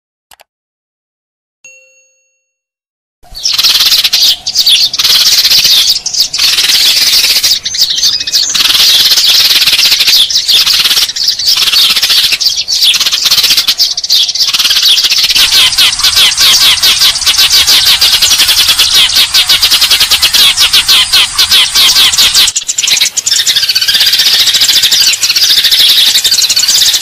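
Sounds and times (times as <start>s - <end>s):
sparrows chirping in chorus: 3.2s - 27.0s.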